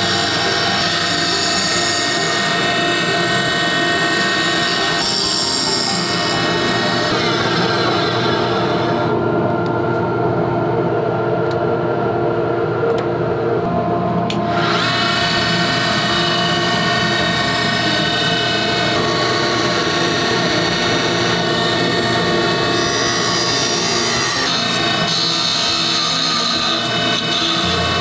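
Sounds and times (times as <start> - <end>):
wood lathe running: 0.0 - 9.2, 13.7 - 28.0.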